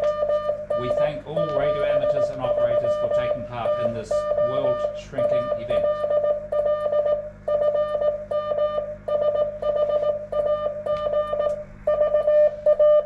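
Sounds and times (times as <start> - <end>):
morse code beeps: 0.0 - 13.0.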